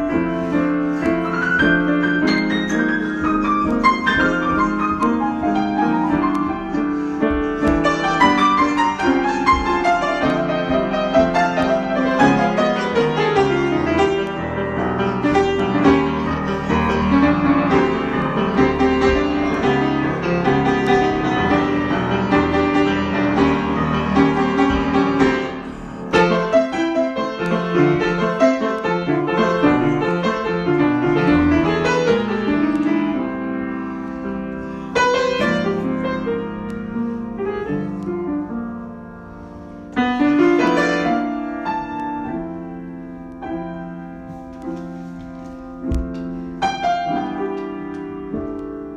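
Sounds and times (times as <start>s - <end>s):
solo piano improvisation: 0.0s - 48.9s.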